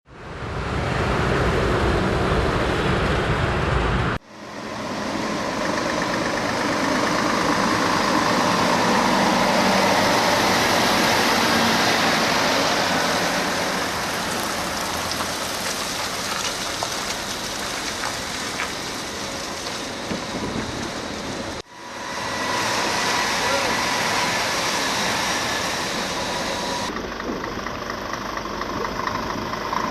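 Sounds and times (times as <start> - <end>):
road noise: 0.0 - 29.9
vehicle engine rumble: 0.1 - 29.9
hissing tyre and wind noise: 0.2 - 29.9.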